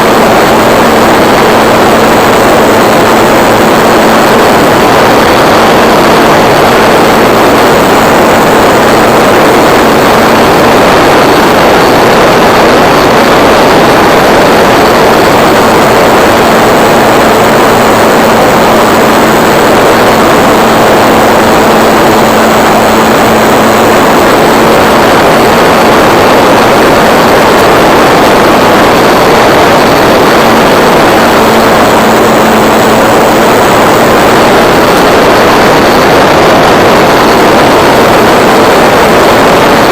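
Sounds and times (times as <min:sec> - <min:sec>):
model plane motor and propeller: 0:00.0 - 0:39.9
wind rush on microphone: 0:00.0 - 0:39.9.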